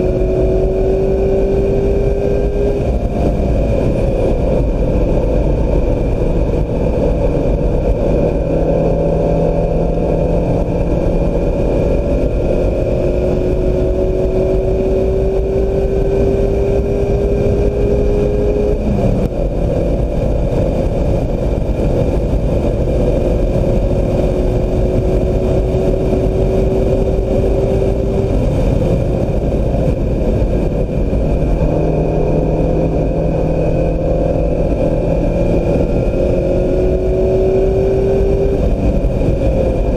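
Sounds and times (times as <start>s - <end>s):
car engine under load: 0.0s - 39.9s
wind and road noise: 0.0s - 39.9s.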